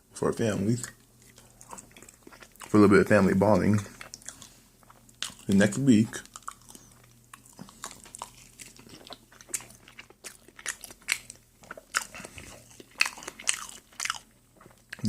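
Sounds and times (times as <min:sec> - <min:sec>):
person chewing: 0:00.8 - 0:02.9, 0:03.8 - 0:15.0.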